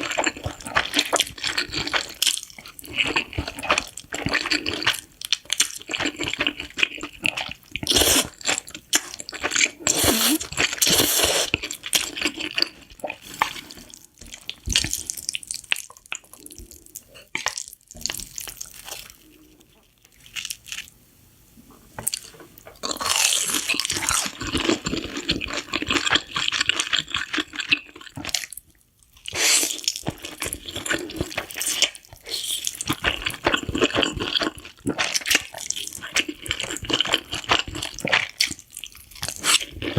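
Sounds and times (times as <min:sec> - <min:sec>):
slurping and chewing noodles: 0:00.0 - 0:20.9, 0:22.0 - 0:39.9.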